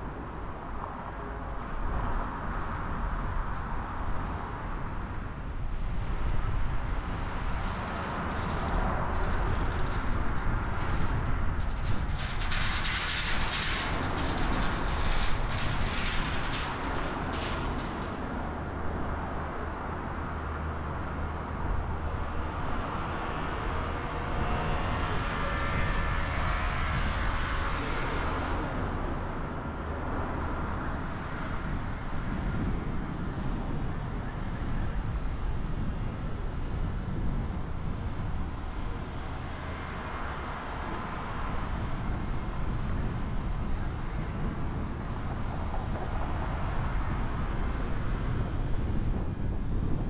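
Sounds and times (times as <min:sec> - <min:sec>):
vehicle rumble and road noise: 0:00.0 - 0:50.0.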